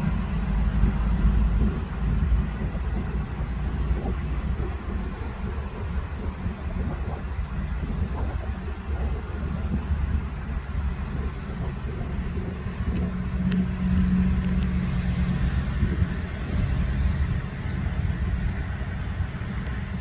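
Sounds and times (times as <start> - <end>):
motor engine rumbling: 0.0 - 20.0.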